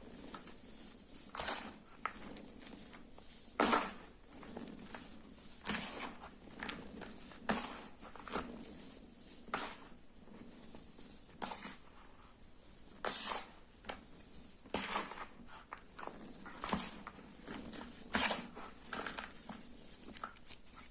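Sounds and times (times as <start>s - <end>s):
chalk crunching and scraping: 0.0s - 20.9s.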